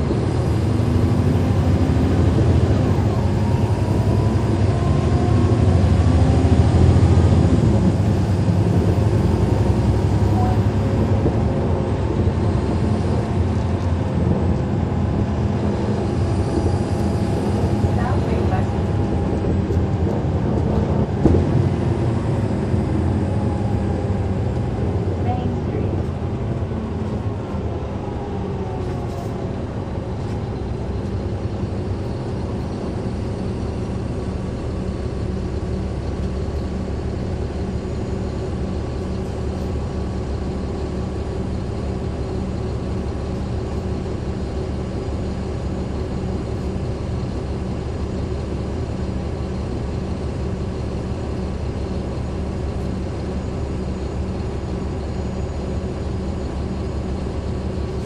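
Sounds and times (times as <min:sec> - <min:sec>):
bus diesel engine drone: 0:00.0 - 0:58.0
engine cooling fans: 0:00.0 - 0:58.0.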